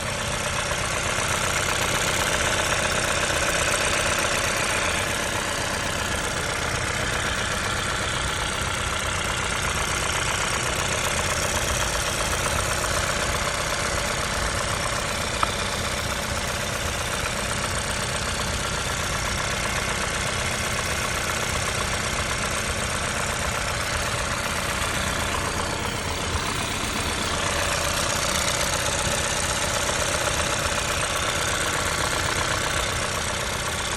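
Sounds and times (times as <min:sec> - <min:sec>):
car engine idling with knocking: 0:00.0 - 0:33.9.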